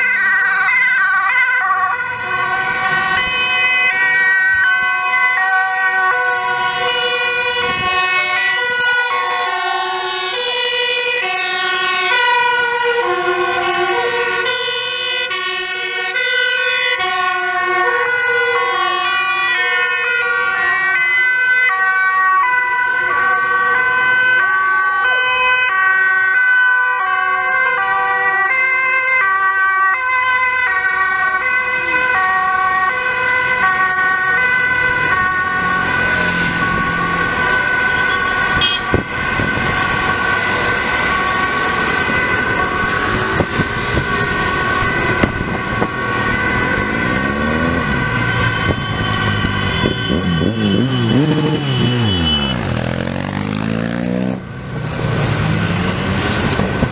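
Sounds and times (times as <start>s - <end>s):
overlapping two-tone sirens: 0.0s - 56.9s.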